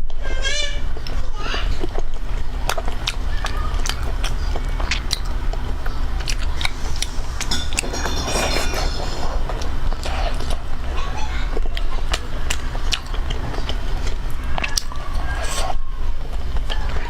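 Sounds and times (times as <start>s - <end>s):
low hum: 0.8s - 17.0s.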